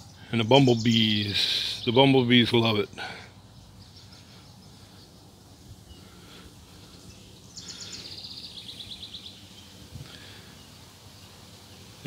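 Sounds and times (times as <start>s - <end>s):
faint high bird chirps: 0.0s - 12.0s
songbird trilling: 0.0s - 12.0s.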